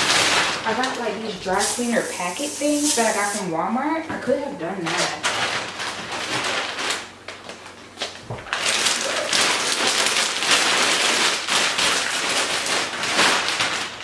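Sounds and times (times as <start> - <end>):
plastic bags crinkling: 0.0 - 3.4, 4.8 - 14.0.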